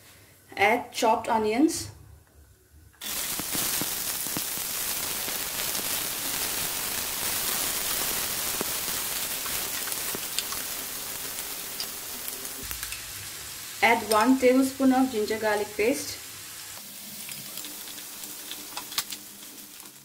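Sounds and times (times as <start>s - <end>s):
onions sizzling in hot oil: 3.0s - 20.0s.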